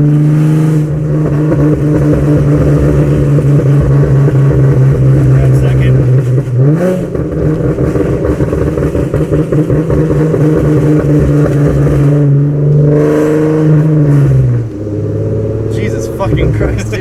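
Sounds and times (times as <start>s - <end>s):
car engine braking: 0.0s - 17.0s
exhaust popping and crackling: 0.0s - 17.0s.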